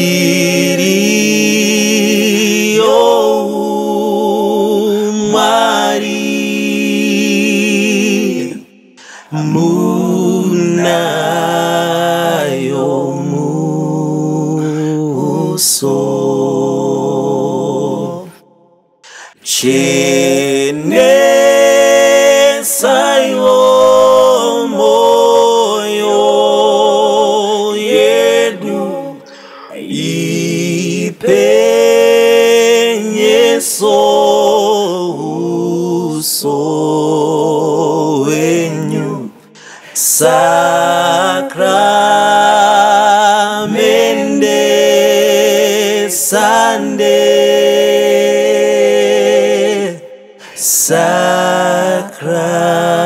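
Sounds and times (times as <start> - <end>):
men singing a cappella hymn: 0.0 - 53.0.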